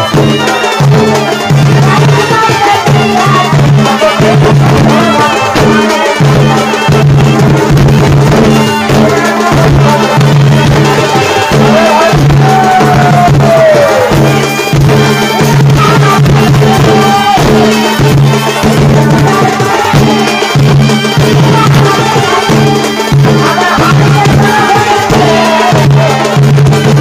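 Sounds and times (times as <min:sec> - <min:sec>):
drums beating: 0:00.0 - 0:27.0.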